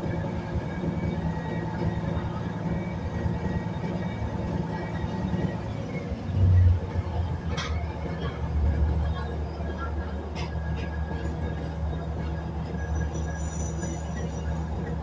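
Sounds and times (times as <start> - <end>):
diesel engine drone: 0.0 - 15.0
wheel and track rumble: 0.0 - 15.0.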